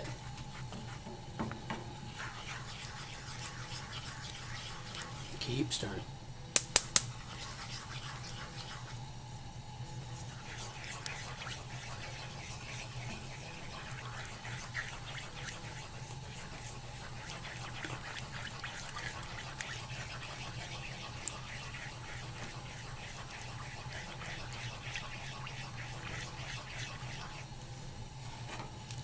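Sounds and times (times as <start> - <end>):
steady hum: 0.0 - 29.0
sauce simmering and bubbling: 0.2 - 5.4, 7.0 - 28.3.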